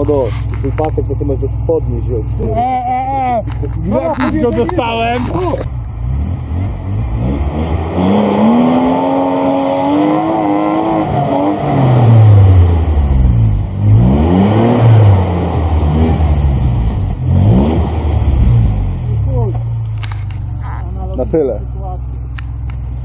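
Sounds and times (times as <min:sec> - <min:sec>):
suv engine revving: 0:00.0 - 0:23.0.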